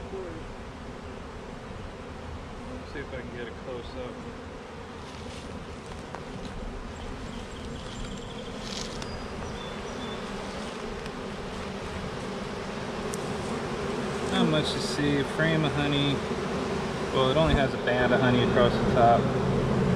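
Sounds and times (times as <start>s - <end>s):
honeybees buzzing: 0.0s - 19.9s.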